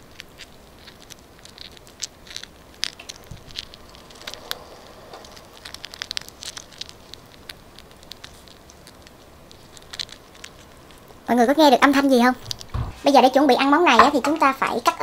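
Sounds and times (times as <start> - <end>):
larvae rustling and clicking: 0.0 - 15.0.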